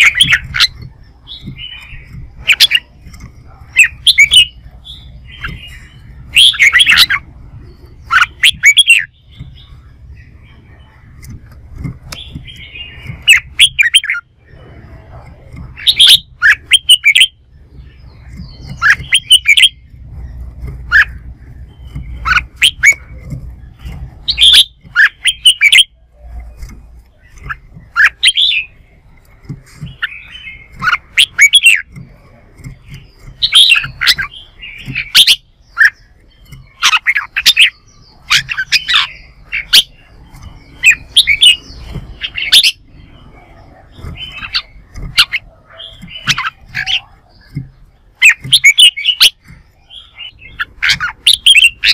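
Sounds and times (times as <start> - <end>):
bird singing warbling phrases: 0.0 - 51.9.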